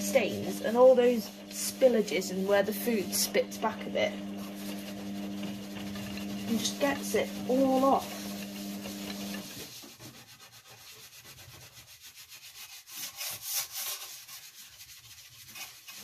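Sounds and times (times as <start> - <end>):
sponge scrubbing oven floor: 0.0 - 16.0.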